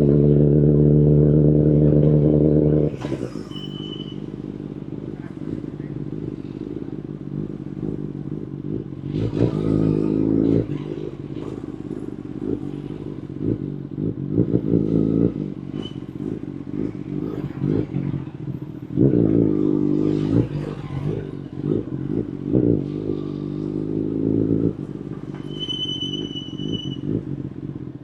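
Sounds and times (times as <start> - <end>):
motorcycle engine revving: 0.0 - 28.0
motorcycle engine running: 0.0 - 28.0.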